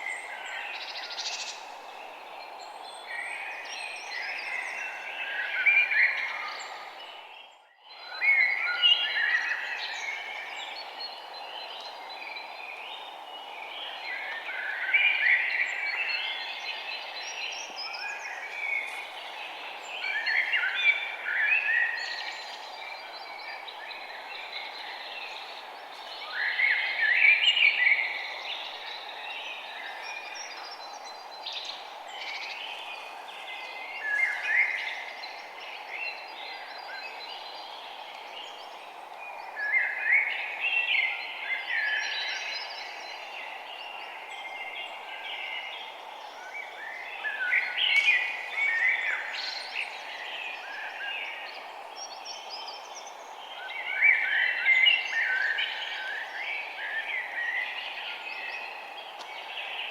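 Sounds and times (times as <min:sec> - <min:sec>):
songbirds chirping and singing: 0:00.0 - 0:59.9
steady background hiss: 0:08.0 - 0:59.9.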